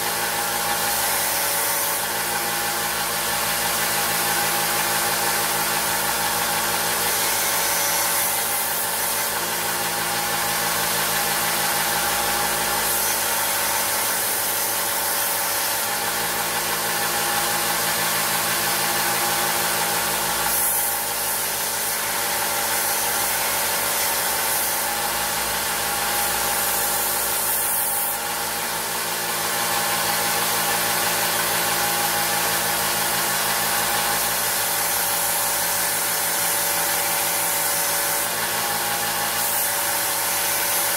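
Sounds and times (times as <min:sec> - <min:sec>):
belt sander grinding metal: 0:00.0 - 0:40.9.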